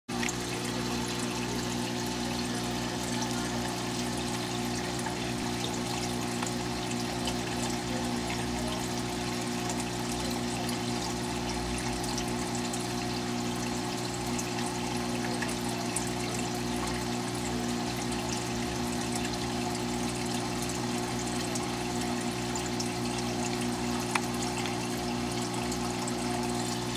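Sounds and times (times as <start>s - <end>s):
low pump hum: 0.1s - 26.9s
water trickling and splashing: 0.1s - 26.9s.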